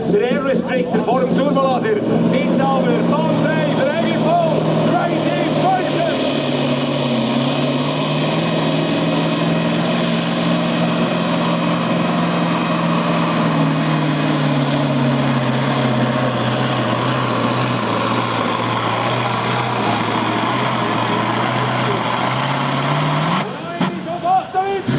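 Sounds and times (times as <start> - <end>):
tractor diesel engine droning: 0.0 - 24.9.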